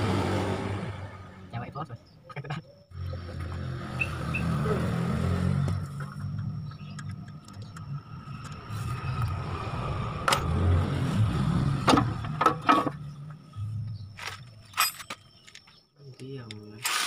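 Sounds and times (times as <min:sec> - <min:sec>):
vehicle engine rumbling: 0:00.0 - 0:16.8.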